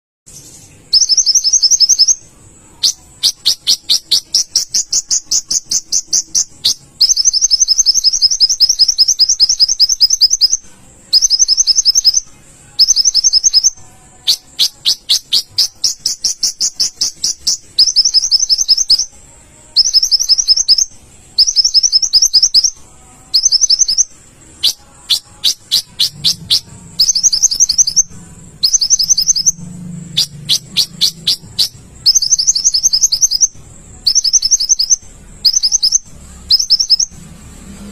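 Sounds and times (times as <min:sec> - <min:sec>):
sunbird trilling chirps: 0:00.3 - 0:37.2.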